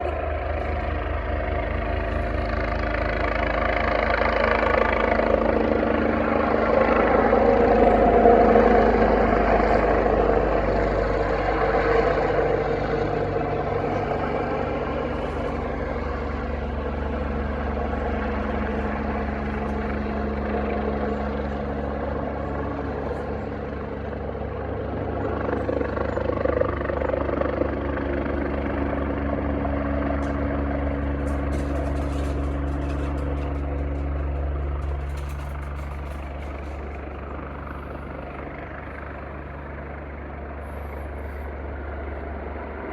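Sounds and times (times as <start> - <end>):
helicopter rotor and engine: 0.0 - 42.9.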